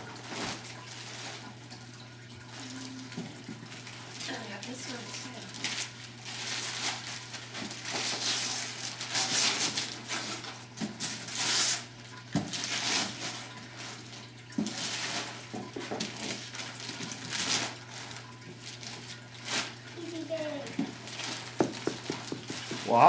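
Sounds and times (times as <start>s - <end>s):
wrapping paper tearing and crumpling: 0.0s - 1.6s, 2.5s - 23.0s.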